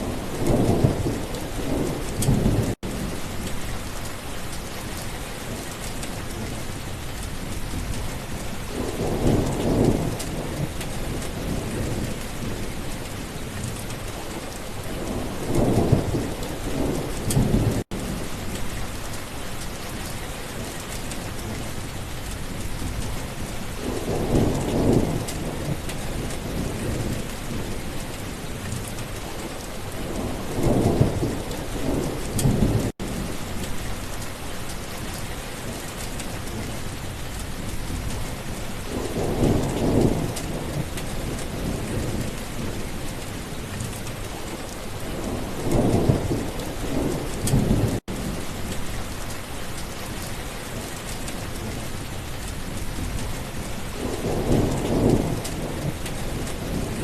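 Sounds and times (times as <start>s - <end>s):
thunder rumbling: 0.0s - 4.0s, 7.4s - 18.9s, 22.5s - 34.2s, 35.7s - 43.7s, 44.3s - 49.3s, 50.7s - 57.0s
steady rain: 0.0s - 57.0s.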